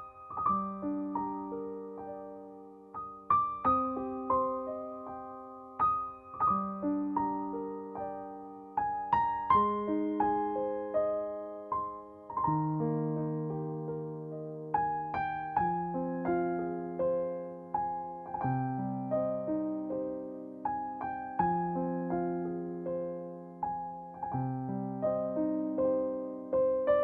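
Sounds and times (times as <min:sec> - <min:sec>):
slow solo piano: 0:00.0 - 0:27.0.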